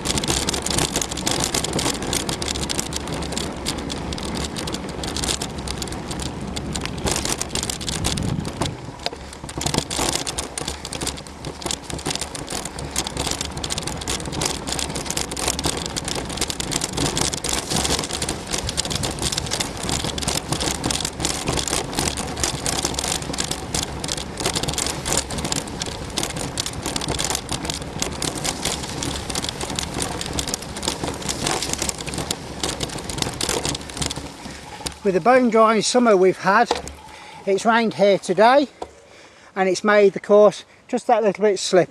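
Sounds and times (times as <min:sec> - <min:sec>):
bike clicks and rattles: 0:00.0 - 0:40.4
bike tyres rushing on dirt: 0:00.0 - 0:41.9.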